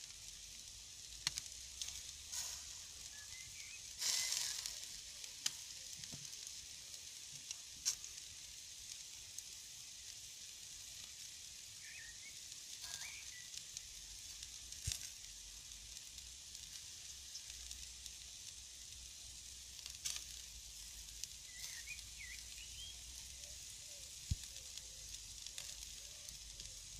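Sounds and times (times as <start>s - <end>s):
meat sizzling over embers: 0.0s - 26.9s.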